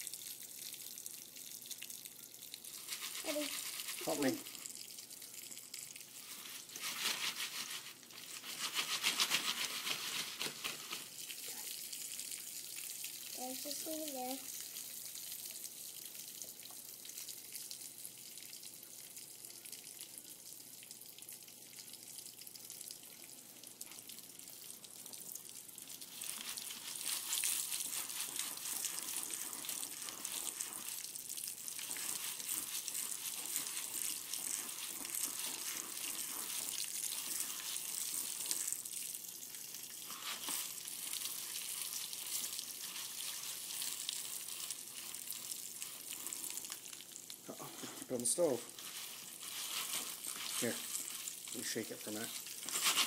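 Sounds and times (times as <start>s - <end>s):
oil and kernels sizzling in foil pan: 0.0s - 53.0s.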